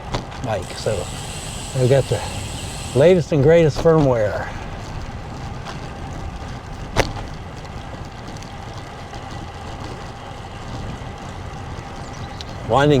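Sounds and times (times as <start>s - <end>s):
bike tyre noise: 0.0s - 13.0s
wind noise on microphone: 0.0s - 13.0s.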